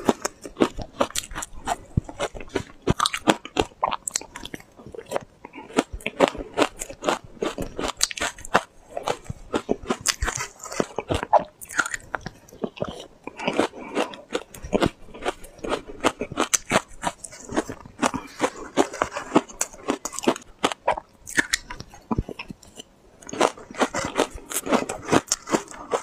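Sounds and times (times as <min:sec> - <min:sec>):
chewing crunchy ice: 0:00.0 - 0:26.0.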